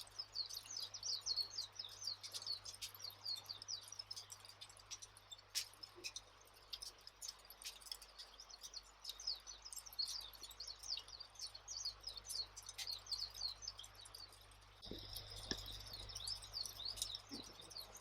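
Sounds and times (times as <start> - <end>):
small birds chirping: 0.0 - 18.0
campfire crackling and popping: 2.4 - 18.0.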